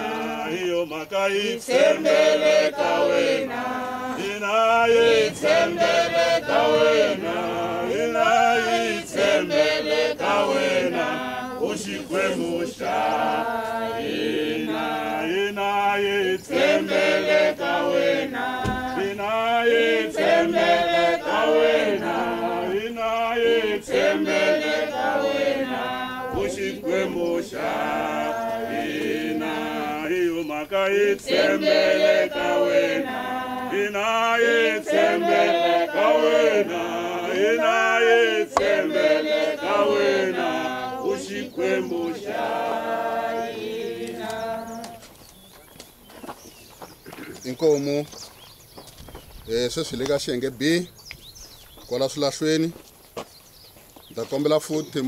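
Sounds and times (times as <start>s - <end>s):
group singing unaccompanied hymn: 0.0s - 45.2s.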